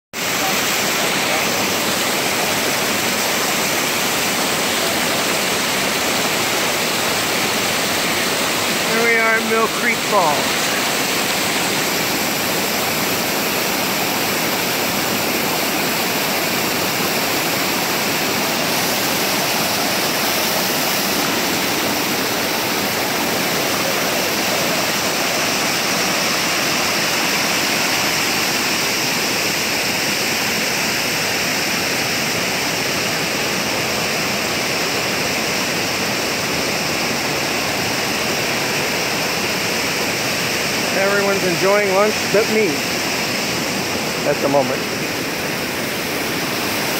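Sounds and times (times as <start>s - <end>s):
waterfall cascading over rocks: 0.2s - 46.9s.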